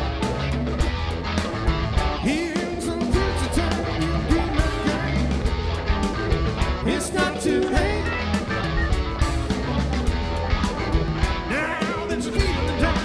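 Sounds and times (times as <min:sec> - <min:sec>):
drums keeping a steady beat: 0:00.0 - 0:13.0
electric bass: 0:00.0 - 0:13.0
electric guitars: 0:00.0 - 0:13.0
swooping melody line: 0:02.0 - 0:13.0.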